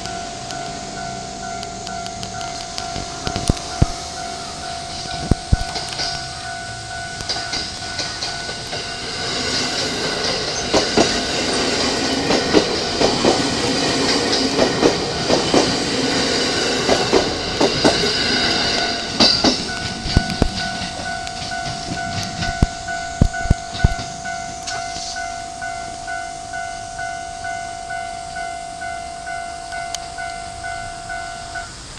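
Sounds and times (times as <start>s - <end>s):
level crossing warning bell: 0.0s - 31.9s
train wheels clicking over rail joints: 0.0s - 31.9s.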